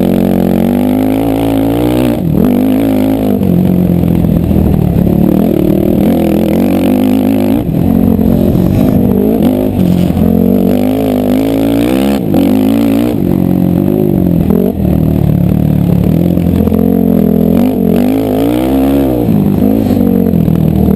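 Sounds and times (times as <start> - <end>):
atv engines revving: 0.0 - 20.9.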